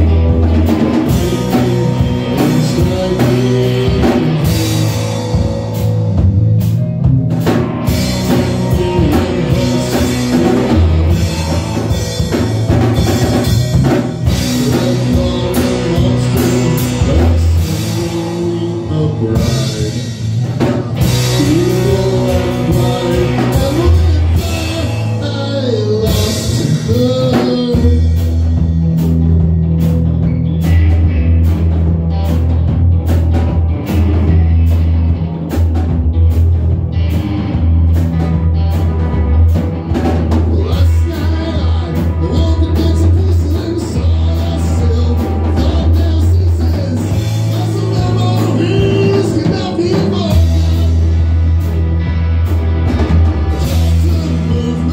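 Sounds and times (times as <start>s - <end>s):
heavy electric bass: 0.0s - 54.9s
live rock band jamming: 0.0s - 54.9s
steady drums: 0.0s - 54.9s
wailing electric guitar: 0.0s - 54.9s.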